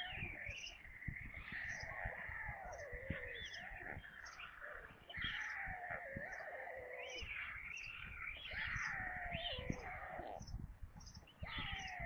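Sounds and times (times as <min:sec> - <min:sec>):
high bird chirp: 0:00.0 - 0:12.0
warbling bird calls: 0:00.0 - 0:12.0.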